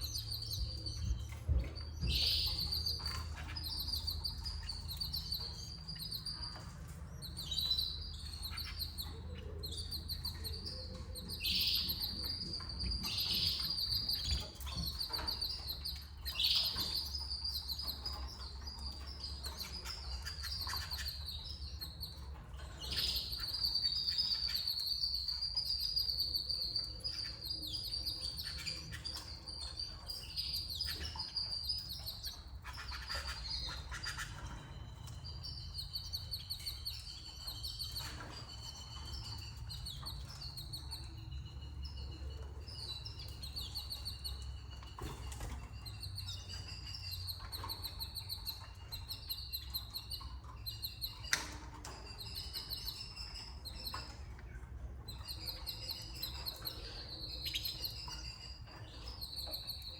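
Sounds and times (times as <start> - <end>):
canary singing in trills: 0.0 - 59.9.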